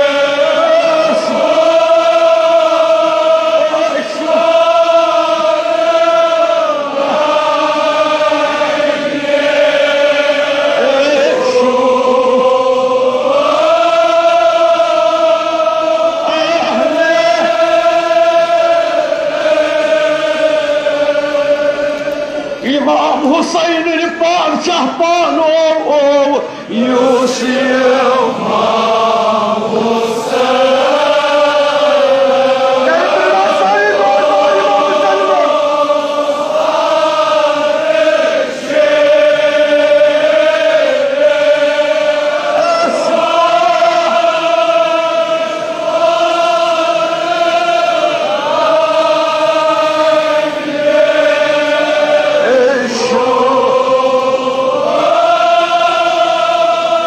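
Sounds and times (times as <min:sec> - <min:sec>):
men chanting together: 0:00.0 - 0:57.0.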